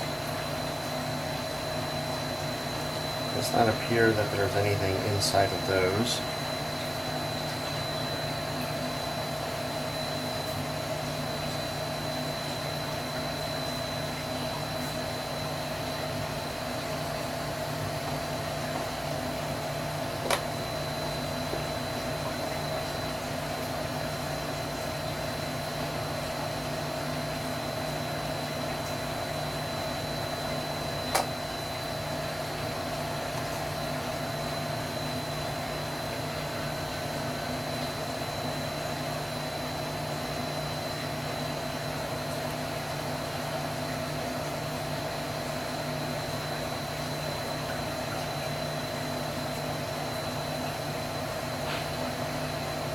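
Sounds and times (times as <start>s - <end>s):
mechanical hum with high whine: 0.0s - 52.9s.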